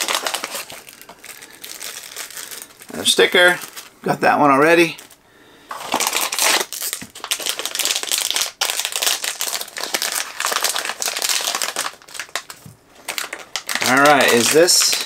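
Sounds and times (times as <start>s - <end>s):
plastic packaging crinkling: 0.0s - 4.1s, 4.7s - 15.0s.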